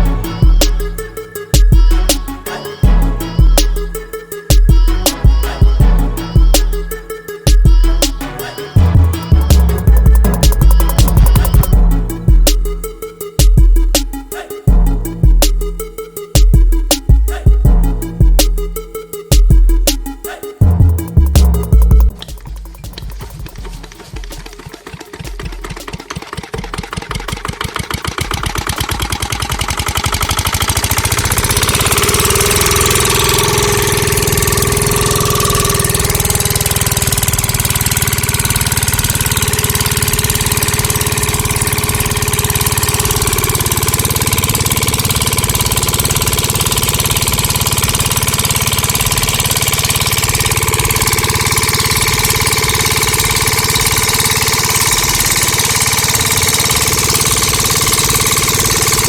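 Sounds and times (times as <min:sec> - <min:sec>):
model engine knocking and running: 0:00.0 - 0:03.8, 0:08.8 - 0:14.1, 0:20.7 - 0:59.0.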